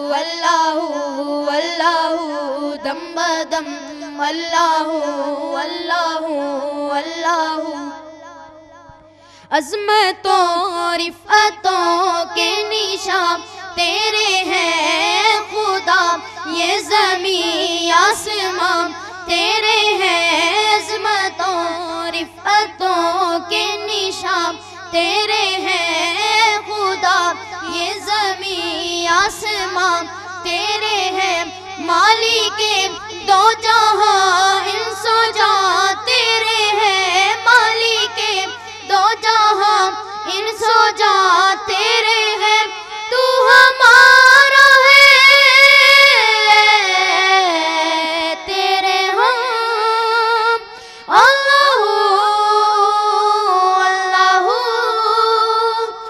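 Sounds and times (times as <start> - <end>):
boys singing through sound system: 0.0 - 56.0.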